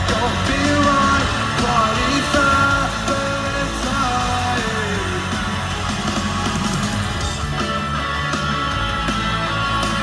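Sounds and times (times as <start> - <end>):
bass guitar: 0.0 - 10.0
distorted electric guitars: 0.0 - 10.0
drums: 0.0 - 10.0.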